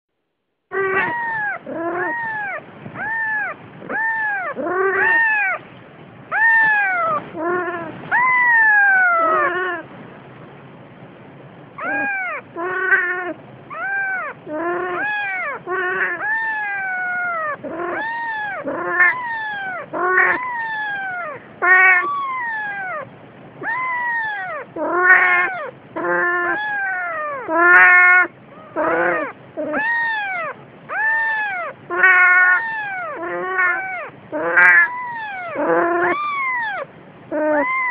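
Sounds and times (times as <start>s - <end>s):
kitten mewing: 0.7s - 5.7s, 6.3s - 9.9s, 11.8s - 37.9s.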